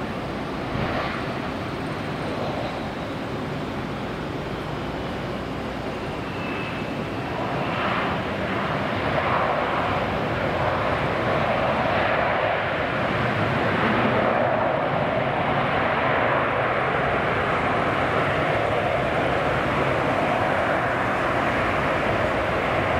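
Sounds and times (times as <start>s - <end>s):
jet engines rushing: 0.0s - 22.9s.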